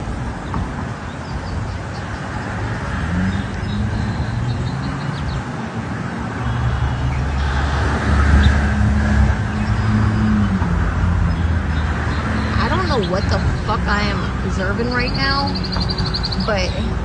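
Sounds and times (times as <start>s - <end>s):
traffic noise: 0.0s - 17.0s
vehicle engine running: 0.0s - 17.0s.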